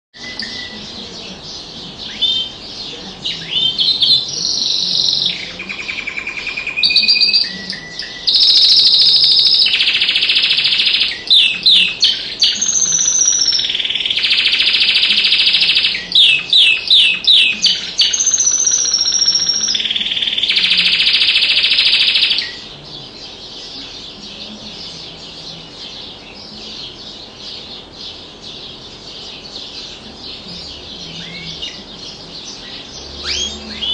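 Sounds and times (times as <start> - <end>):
canary singing: 0.1 - 33.9
faint high background noise: 0.1 - 33.9.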